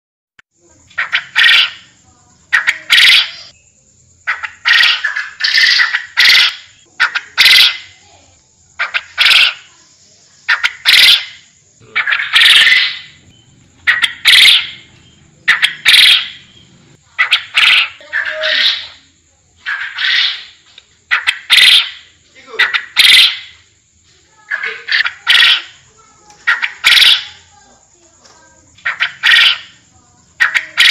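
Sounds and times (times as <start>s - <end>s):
quail calling: 0.8s - 3.6s, 4.3s - 8.0s, 8.8s - 9.8s, 10.5s - 23.7s, 24.4s - 27.5s, 28.8s - 30.9s.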